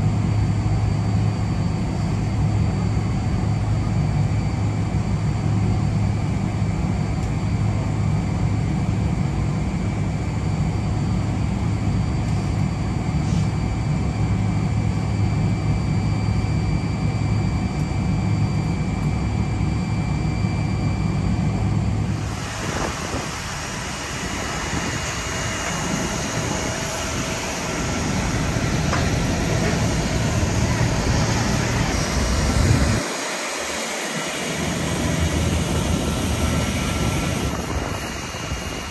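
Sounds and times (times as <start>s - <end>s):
airliner hum and air rush: 0.0s - 38.9s.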